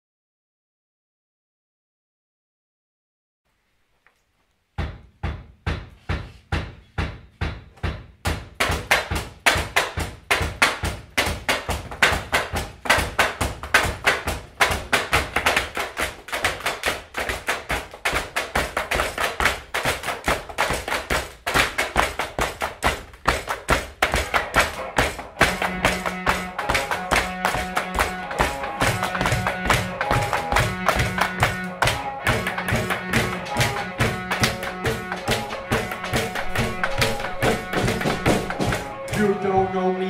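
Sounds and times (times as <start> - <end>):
tapping and thumping on desks: 4.7 - 39.2.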